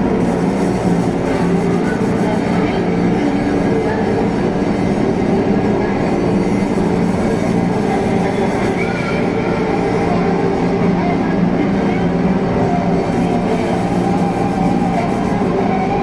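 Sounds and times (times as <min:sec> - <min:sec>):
drone and noise music: 0:00.0 - 0:16.0.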